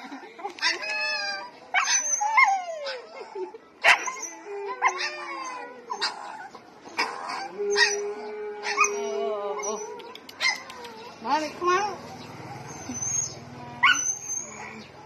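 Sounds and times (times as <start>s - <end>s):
dog whining and yelping: 0.6s - 11.4s, 12.1s - 15.0s.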